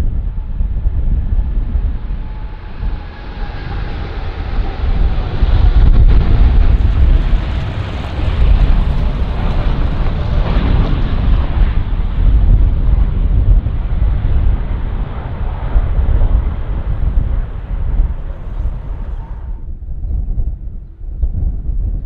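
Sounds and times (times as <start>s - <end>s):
jet engines rumbling: 0.0s - 21.1s.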